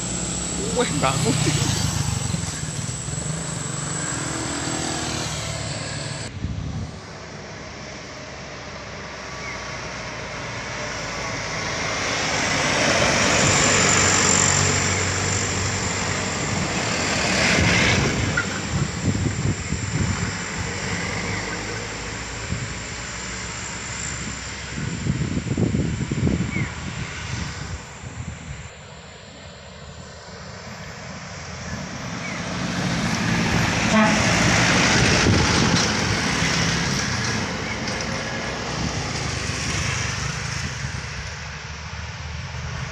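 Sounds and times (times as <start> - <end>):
heavy vehicles passing: 0.0 - 42.9.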